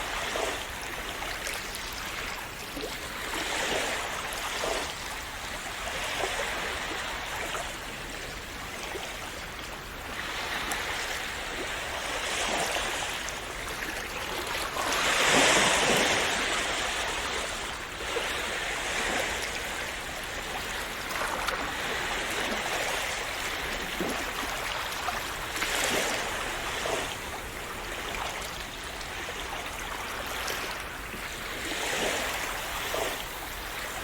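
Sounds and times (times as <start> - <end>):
sea waves washing on shore: 0.0 - 34.0.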